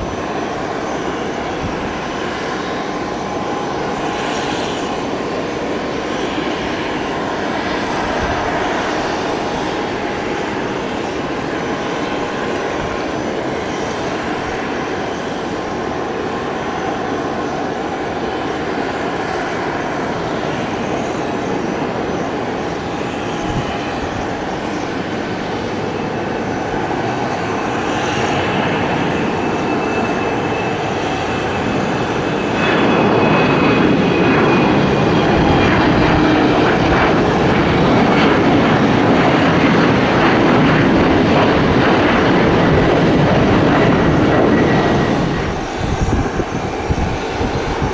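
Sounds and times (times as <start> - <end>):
airplane engines running: 0.0 - 47.9.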